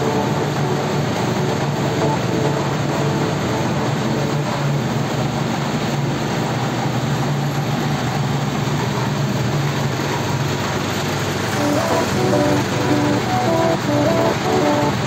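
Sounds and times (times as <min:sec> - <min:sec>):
moving vehicle running noise: 0:00.0 - 0:15.0.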